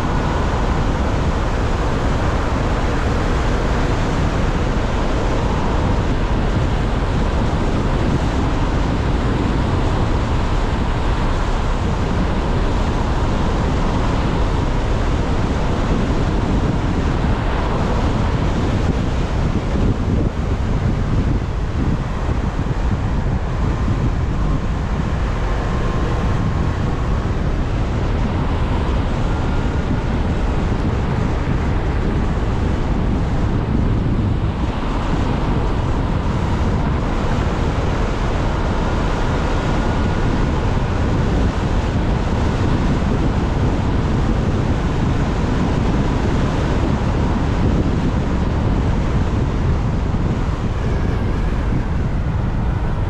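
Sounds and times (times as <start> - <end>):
road noise: 0.0 - 53.0
wind buffeting microphone: 0.0 - 53.0.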